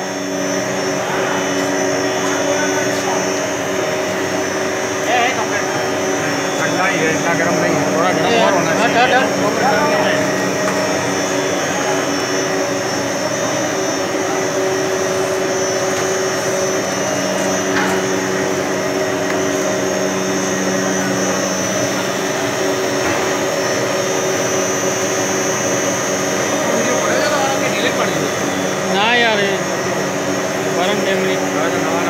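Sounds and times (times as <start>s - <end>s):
high machine whine: 0.0s - 32.0s
machine drone with humming tones: 0.0s - 32.0s.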